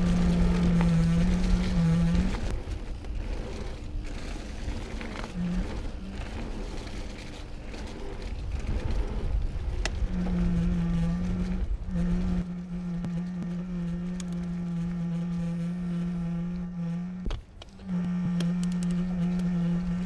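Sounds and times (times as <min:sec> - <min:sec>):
bike rolling over dirt trail: 0:00.0 - 0:20.0
gimbal motors humming: 0:00.0 - 0:20.0.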